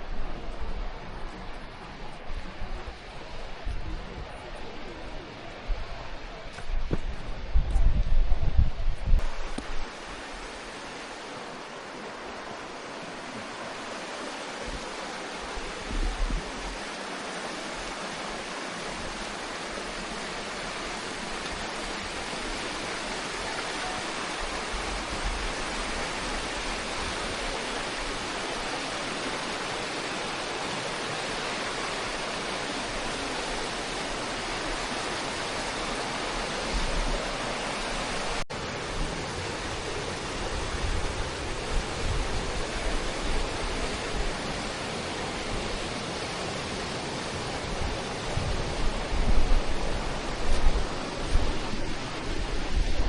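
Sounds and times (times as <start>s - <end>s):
wind buffeting microphone: 0.0s - 10.7s, 13.7s - 53.0s
falling water rushing: 0.0s - 53.0s.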